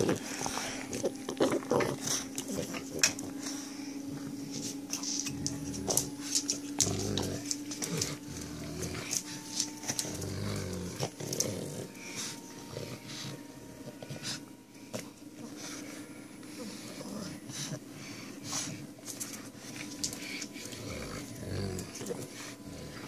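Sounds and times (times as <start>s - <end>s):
dogs growling playfully: 0.0s - 13.4s, 16.6s - 23.0s
dogs snuffling: 0.0s - 23.0s.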